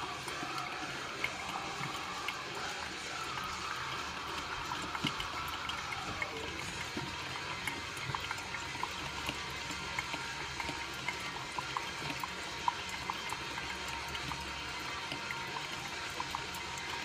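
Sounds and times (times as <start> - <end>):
coffee maker hissing: 0.0 - 17.0
coffee pops and drips: 0.1 - 17.0.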